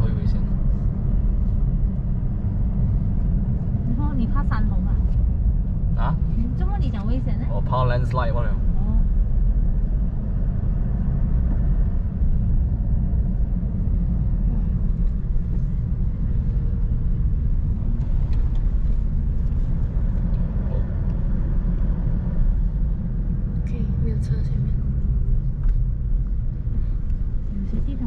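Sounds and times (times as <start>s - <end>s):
vehicle rumbling: 0.0s - 28.0s.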